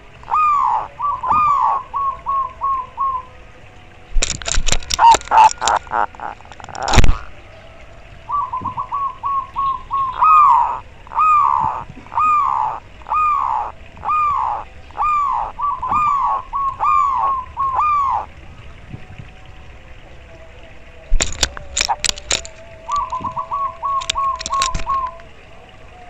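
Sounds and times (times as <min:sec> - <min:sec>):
dove cooing: 0:00.0 - 0:03.4, 0:04.2 - 0:19.2, 0:21.1 - 0:25.4.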